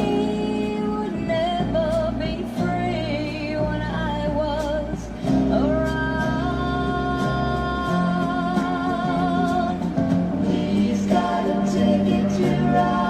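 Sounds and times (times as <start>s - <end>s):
guitar and bass: 0.0s - 13.0s
person singing with vibrato: 0.0s - 13.0s.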